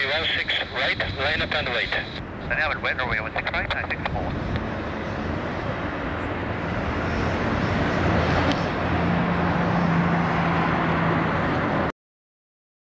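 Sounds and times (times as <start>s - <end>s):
jet engine noise: 0.0s - 11.9s.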